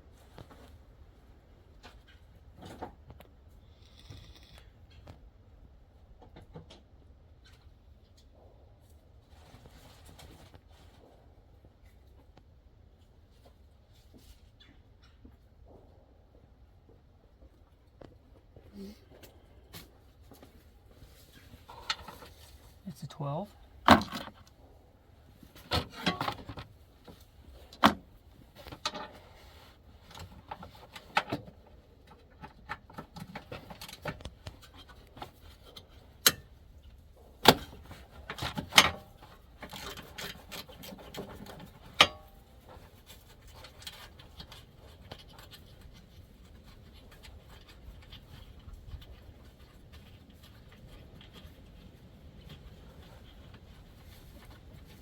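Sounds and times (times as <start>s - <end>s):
quiet rattling and handling: 0.0s - 55.0s.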